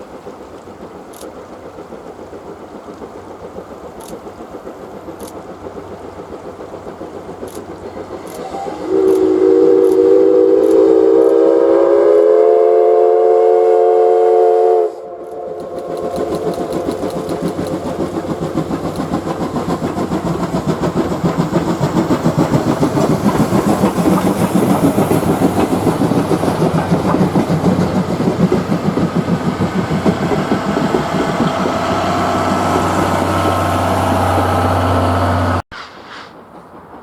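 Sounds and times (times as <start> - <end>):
steam locomotive chugging: 0.0 - 37.0.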